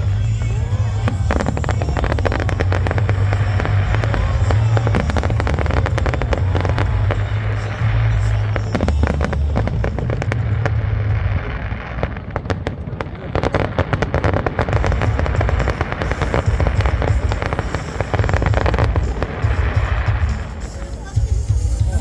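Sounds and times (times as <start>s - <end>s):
low rumble: 0.0s - 20.6s
fireworks crackling: 0.0s - 22.0s.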